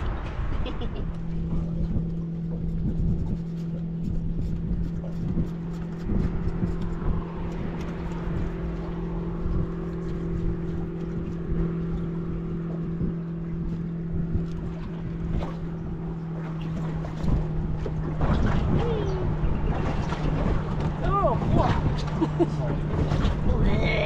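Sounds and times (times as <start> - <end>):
boat engine running: 0.0 - 24.0
hull splashing on choppy water: 0.0 - 24.0.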